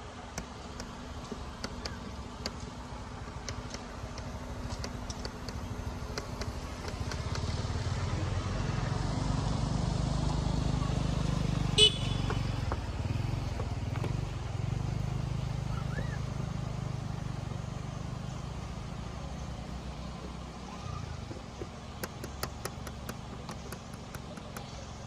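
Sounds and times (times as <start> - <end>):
vehicle engine drone: 0.0 - 25.0.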